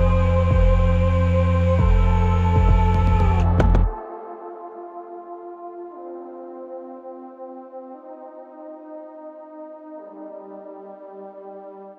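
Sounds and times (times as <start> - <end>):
slow ambient instrumental music: 0.0 - 11.9.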